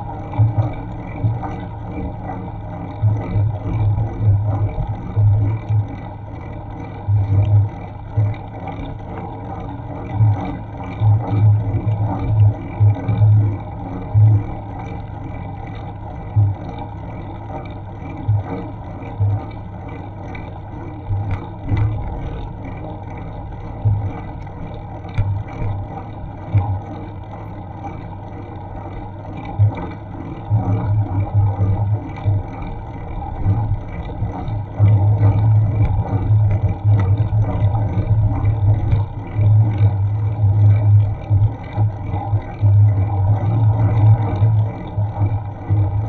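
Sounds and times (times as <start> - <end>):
bicycle tyres rolling: 0.0 - 46.0
faint rattles and clicks: 0.0 - 46.0
low droning rumble: 0.0 - 46.0.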